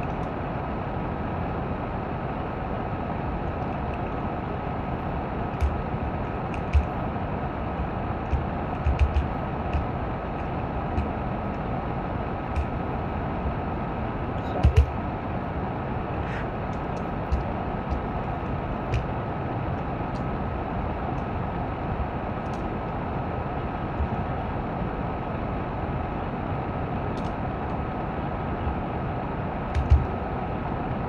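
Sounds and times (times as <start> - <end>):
steady background noise: 0.0 - 31.0.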